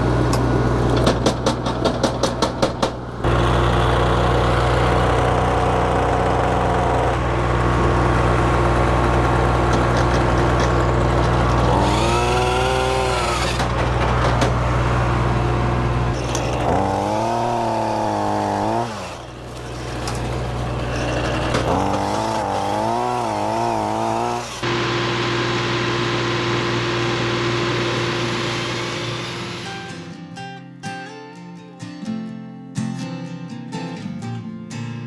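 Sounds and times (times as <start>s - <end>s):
tractor engine hum: 0.0s - 30.0s
wood chipper whining: 0.0s - 30.2s.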